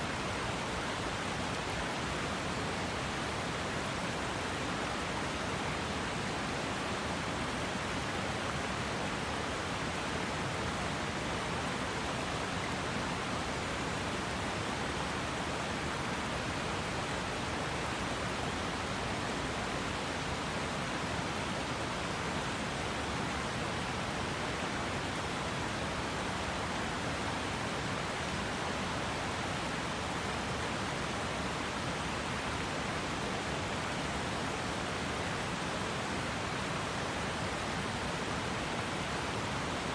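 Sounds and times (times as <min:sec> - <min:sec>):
river flowing over rocks: 0:00.1 - 0:39.9.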